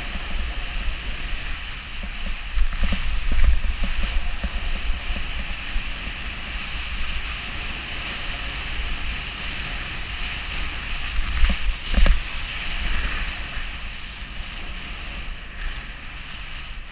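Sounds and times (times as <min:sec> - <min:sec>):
snowboard scraping over snow: 0:00.0 - 0:16.9
wind buffeting microphone: 0:00.0 - 0:16.9.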